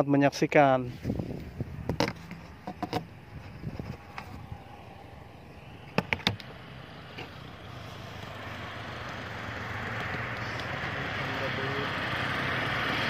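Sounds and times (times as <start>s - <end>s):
car tyre and engine noise: 0.0s - 13.0s.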